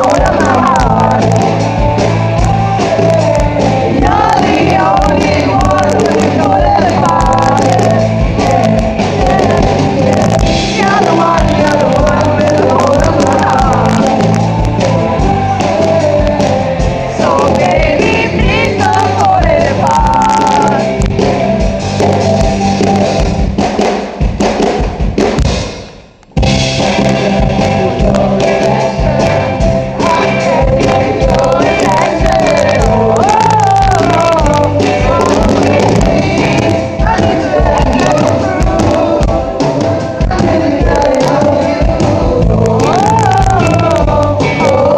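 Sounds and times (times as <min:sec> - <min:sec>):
live band and singer: 0:00.0 - 0:44.9.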